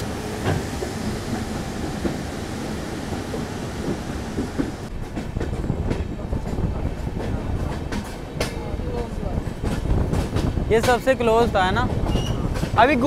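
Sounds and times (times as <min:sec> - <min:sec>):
train rumbling on track: 0:00.0 - 0:13.0
train wheels knocking: 0:00.0 - 0:13.0.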